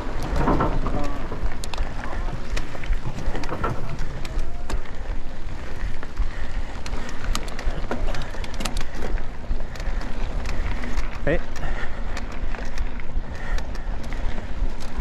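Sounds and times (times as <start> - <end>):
bike clicks and rattles: 0.0 - 15.0
tyres crunching on gravel: 0.0 - 15.0
wind rumble on microphone: 0.0 - 15.0.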